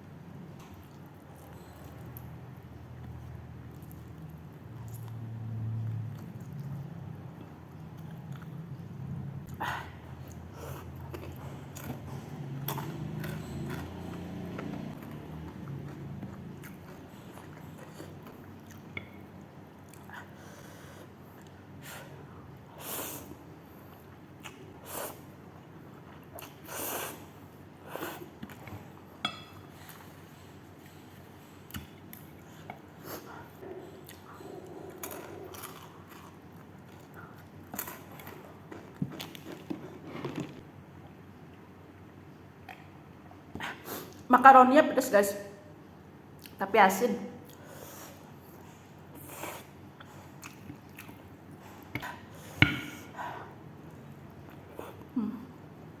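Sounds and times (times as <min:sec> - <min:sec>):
close chewing and eating: 0:00.0 - 0:22.4, 0:23.4 - 0:44.3, 0:46.2 - 0:46.6, 0:47.4 - 0:55.2.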